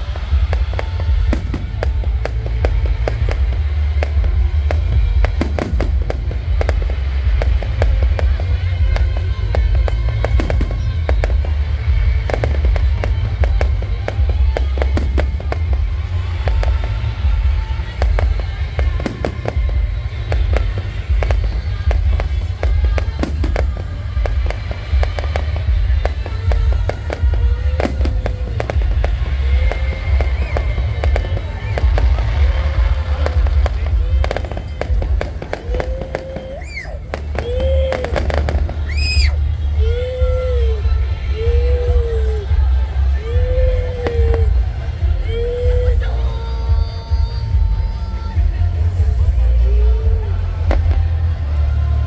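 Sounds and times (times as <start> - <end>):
firework bangs and crackles: 0.0 - 52.0
low rumble: 0.0 - 52.0.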